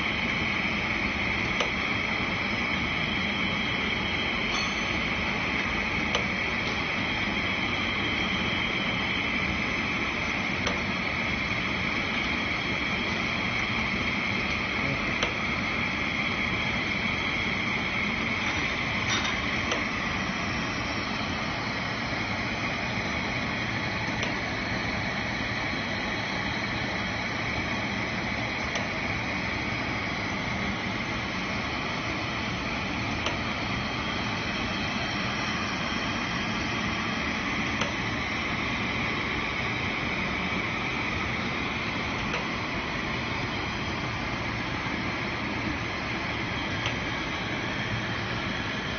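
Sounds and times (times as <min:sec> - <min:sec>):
machinery humming and hissing: 0:00.0 - 0:48.9.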